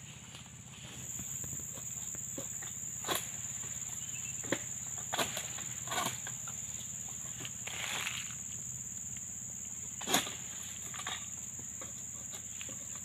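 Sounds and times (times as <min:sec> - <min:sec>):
high-pitched insect drone: 0:00.7 - 0:13.0.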